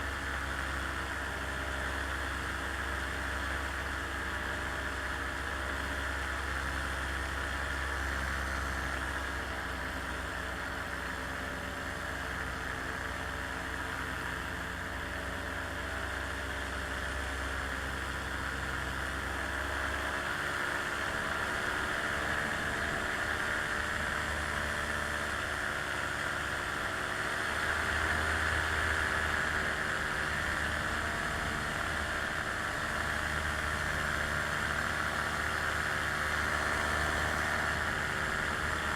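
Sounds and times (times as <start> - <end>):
small plane engine droning: 0.0 - 38.9.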